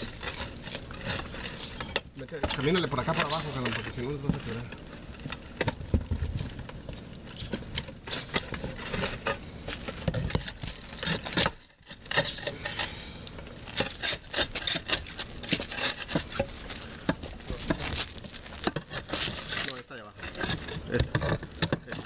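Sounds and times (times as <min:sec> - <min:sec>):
pry bar scraping roof tiles: 0:00.0 - 0:22.0.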